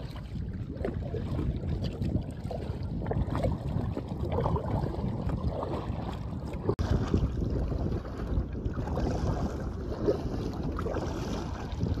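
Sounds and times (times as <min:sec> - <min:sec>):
water splashing around kayak: 0:00.0 - 0:12.0
wind rumble on microphone: 0:00.0 - 0:12.0.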